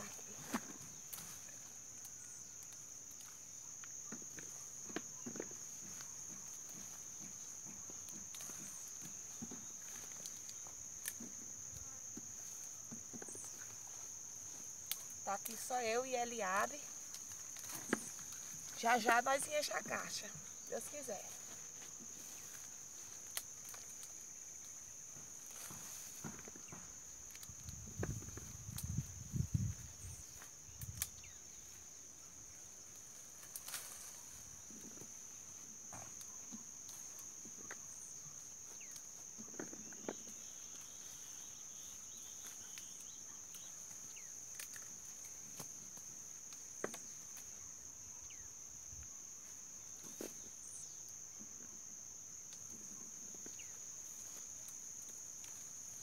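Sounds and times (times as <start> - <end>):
twigs rustling and clicking: 0.0 - 11.7, 12.4 - 15.8, 16.4 - 19.5, 20.6 - 31.4, 32.8 - 35.2, 36.2 - 47.6, 53.4 - 56.0
insects chirring: 0.0 - 56.0.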